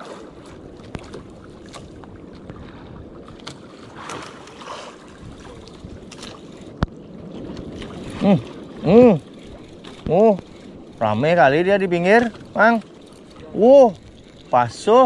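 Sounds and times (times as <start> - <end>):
sea waves washing: 0.0 - 15.0
wind on microphone: 0.0 - 15.0.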